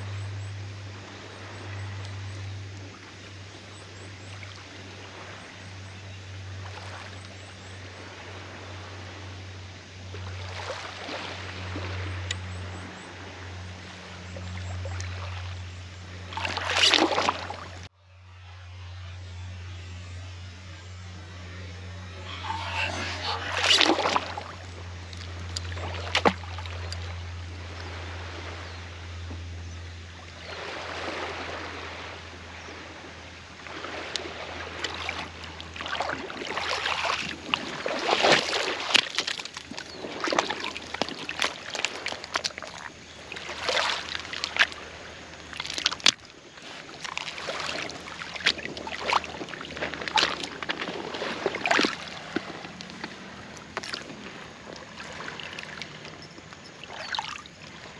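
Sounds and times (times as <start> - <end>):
seawater sloshing and lapping: 0.0 - 17.9, 22.0 - 57.9
low steady hum: 0.0 - 57.9.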